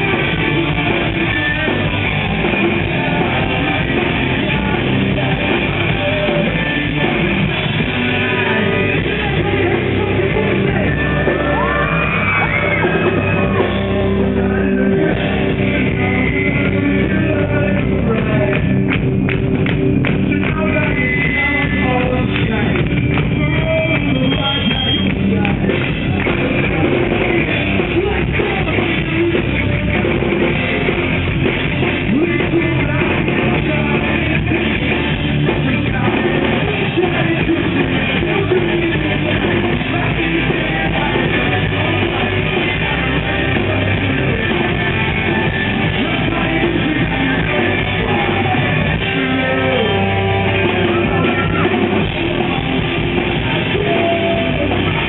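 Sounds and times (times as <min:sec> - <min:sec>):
man singing: 0:00.0 - 0:19.6, 0:20.2 - 0:55.0
drum kit: 0:00.0 - 0:55.0
electric guitars: 0:00.0 - 0:55.0.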